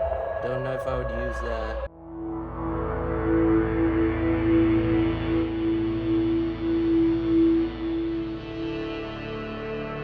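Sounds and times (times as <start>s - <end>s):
ambient keyboard drone: 0.0s - 10.0s
pulsing low layer: 0.0s - 10.0s.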